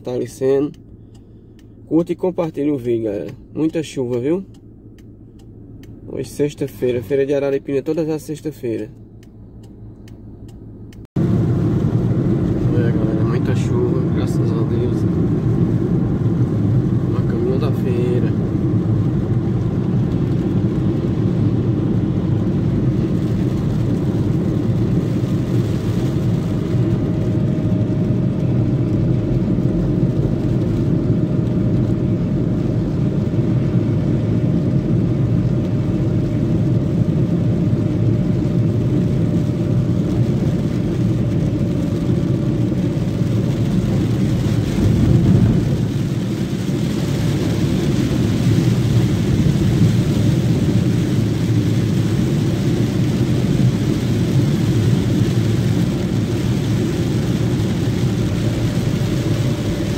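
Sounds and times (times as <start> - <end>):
car road and engine noise: 0.0 - 59.9
tyres on wet road: 11.2 - 59.9.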